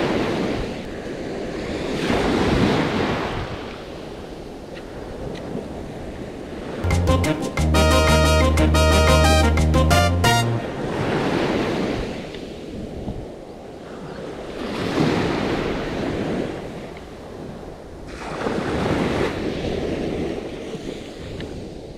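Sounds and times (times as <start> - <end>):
waves breaking on beach: 0.0 - 6.9, 10.6 - 21.9.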